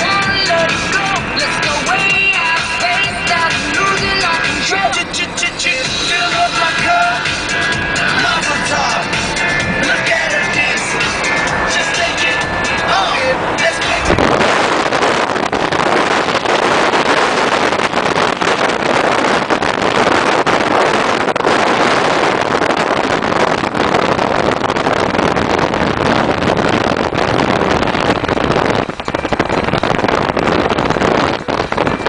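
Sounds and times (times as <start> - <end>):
wind and road noise: 0.0 - 32.0
wind buffeting microphone: 0.0 - 32.0.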